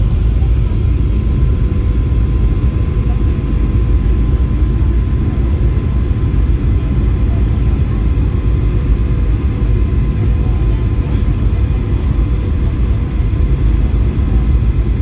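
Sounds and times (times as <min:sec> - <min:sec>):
airplane cabin roar: 0:00.0 - 0:15.0
thin steady whine: 0:00.0 - 0:15.0.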